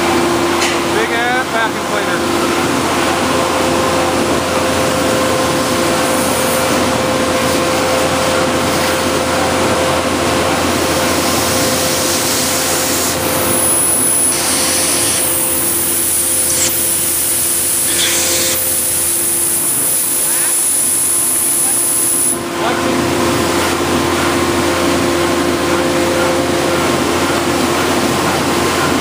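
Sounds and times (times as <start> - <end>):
vacuum truck running: 0.0 - 29.0.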